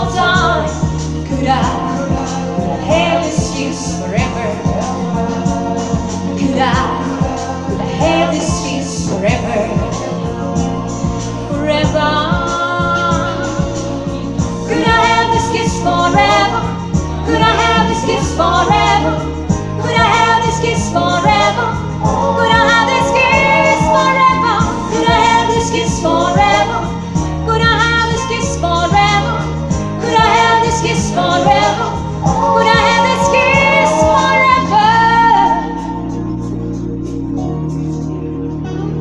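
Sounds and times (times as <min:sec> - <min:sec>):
woman singing: 0:00.0 - 0:10.2, 0:11.5 - 0:36.0
music backing track with bass: 0:00.0 - 0:39.0.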